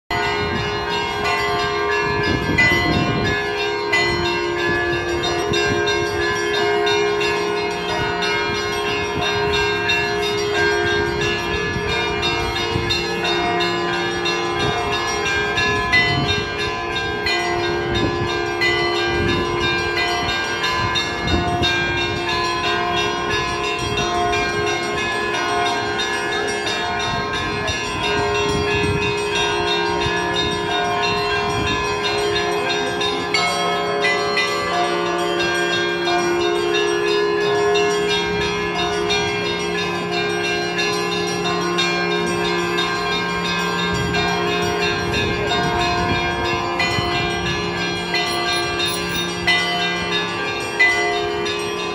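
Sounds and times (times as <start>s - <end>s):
church bells pealing: 0.1s - 51.9s
deep bell humming: 0.1s - 51.9s.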